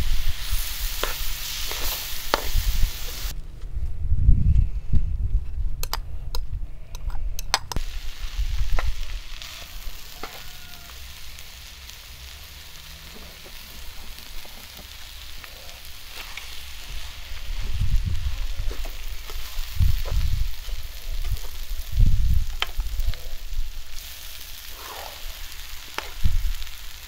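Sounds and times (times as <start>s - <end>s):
food sizzling in a pan: 0.0s - 3.3s, 7.8s - 27.0s.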